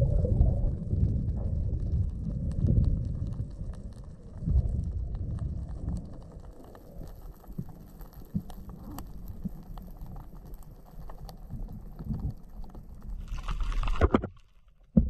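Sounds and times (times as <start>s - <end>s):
low rumble of moving water: 0.0s - 15.0s
faint clicks: 1.4s - 15.0s.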